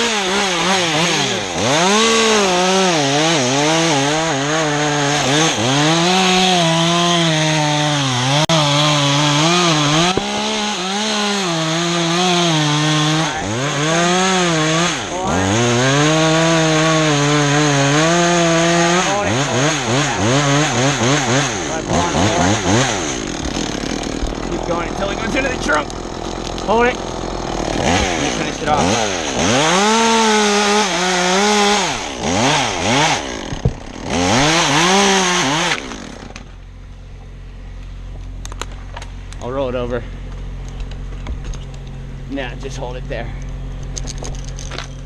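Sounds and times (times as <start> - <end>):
chainsaw cutting wood: 0.0 - 36.8.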